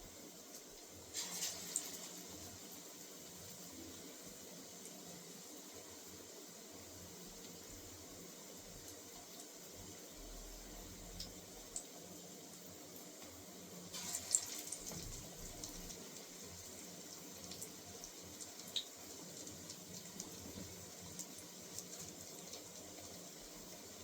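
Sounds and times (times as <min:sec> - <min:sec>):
oil sizzling in a pan: 0:00.0 - 0:24.0.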